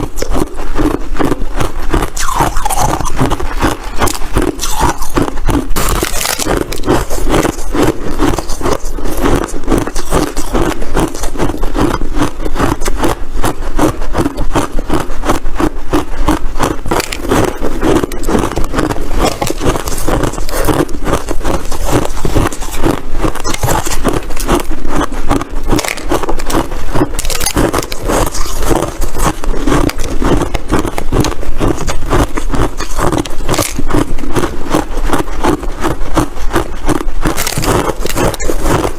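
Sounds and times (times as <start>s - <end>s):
ice crunching: 0.0s - 38.9s.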